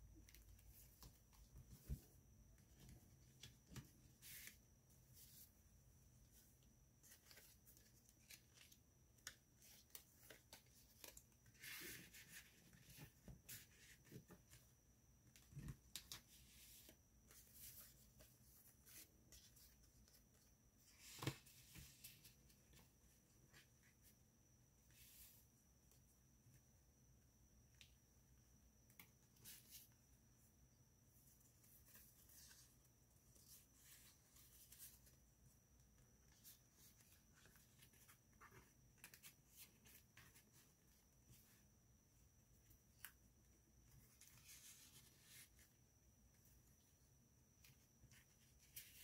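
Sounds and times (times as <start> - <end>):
faint high-pitched whine: 0.0 - 49.0.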